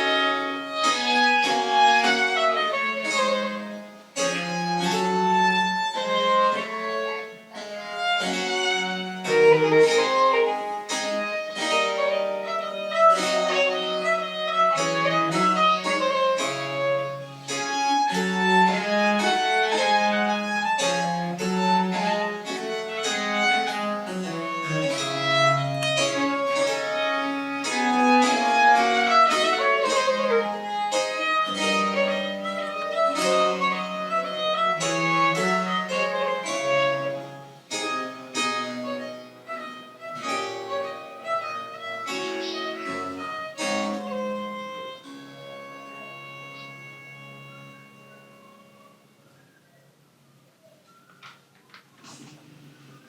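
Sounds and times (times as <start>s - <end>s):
bowed string melody: 0.0s - 49.4s.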